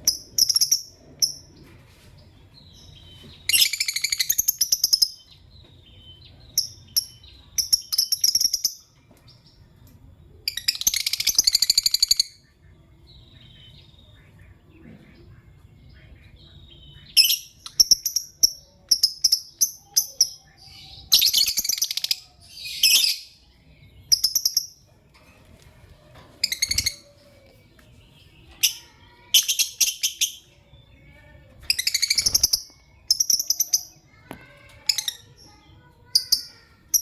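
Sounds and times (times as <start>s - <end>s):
lovebirds chirping and chattering: 0.0s - 37.0s.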